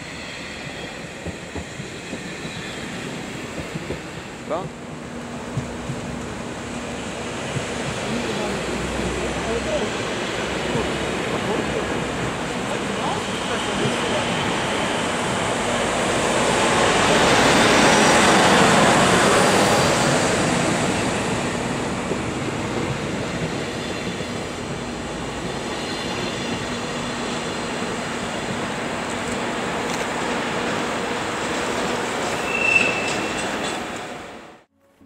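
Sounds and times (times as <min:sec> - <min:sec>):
train rolling past: 0:00.0 - 0:34.7.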